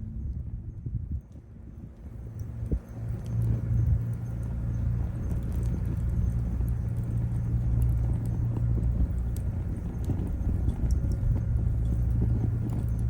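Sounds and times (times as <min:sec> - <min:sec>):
firewood crackling and popping: 0:00.0 - 0:13.0
low fire rumble: 0:00.0 - 0:13.0.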